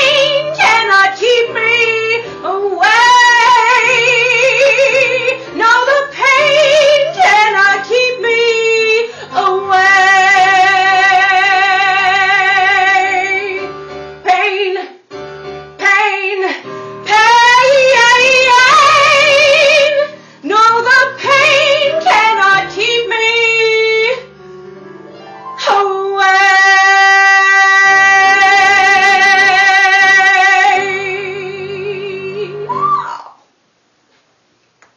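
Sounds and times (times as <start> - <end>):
woman singing with vibrato: 0.0 - 15.0, 15.8 - 24.2, 25.6 - 33.4.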